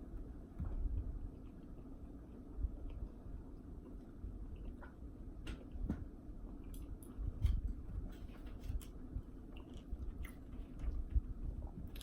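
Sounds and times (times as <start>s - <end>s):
chewing and squishing food: 0.0s - 12.0s.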